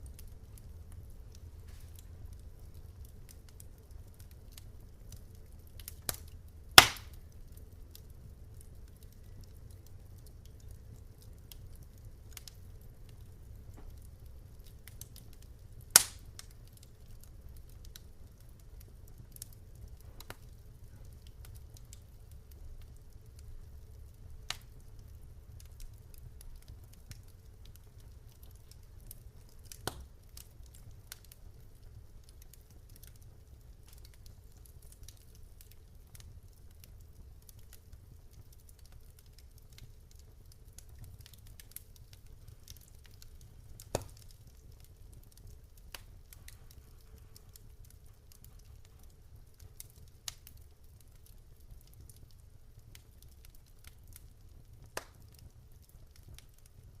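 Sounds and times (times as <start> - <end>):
low steady rumble: 0.0 - 51.1
wood fire crackling: 0.0 - 57.0.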